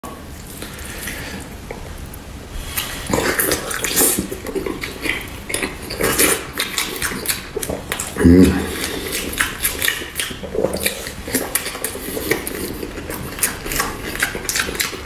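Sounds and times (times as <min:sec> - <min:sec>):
wet chewing and lip-smacking: 0:00.4 - 0:15.0.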